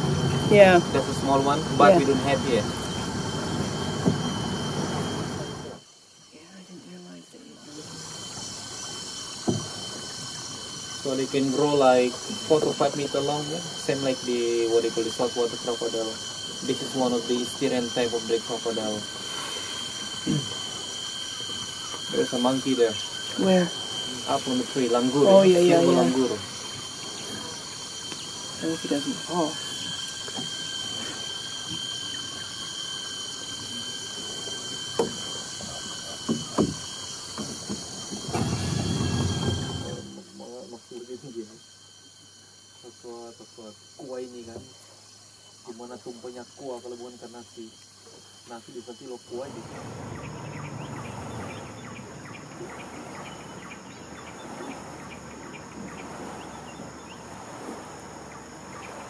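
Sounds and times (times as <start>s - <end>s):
insects whining: 0.0s - 59.0s.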